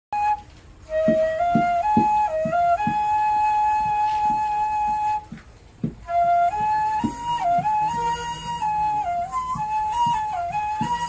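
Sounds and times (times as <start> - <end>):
bamboo flute melody: 0.1 - 11.0
soft low drum strokes: 0.2 - 11.0.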